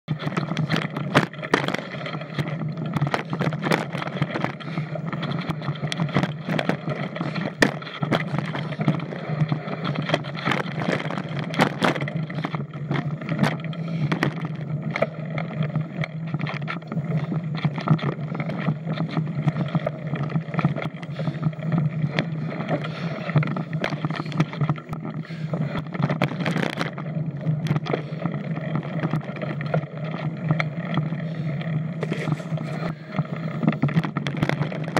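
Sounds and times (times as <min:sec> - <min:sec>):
bike tyre and frame noise: 0:00.0 - 0:34.9
bike knocking and rattling on bumps: 0:00.1 - 0:34.9.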